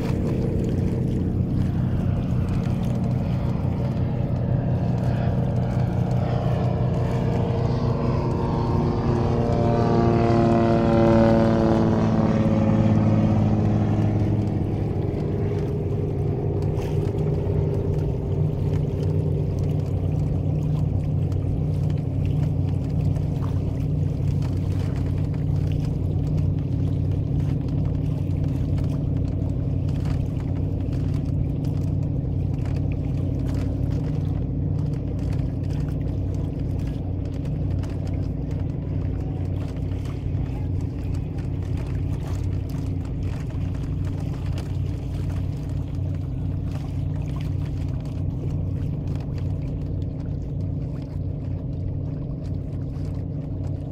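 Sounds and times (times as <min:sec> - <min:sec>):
propeller plane engine droning: 0:00.0 - 0:53.9
water noise: 0:00.0 - 0:53.9
wind: 0:00.0 - 0:53.9.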